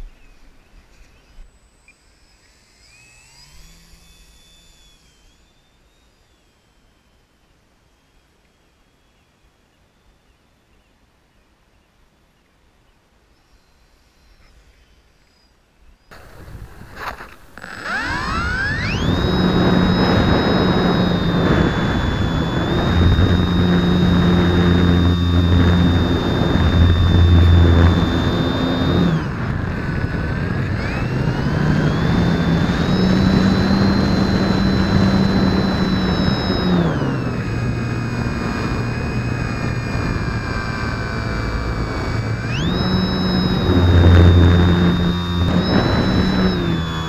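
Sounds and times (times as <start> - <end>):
model plane motor whine: 0.0 - 9.3, 13.4 - 47.0.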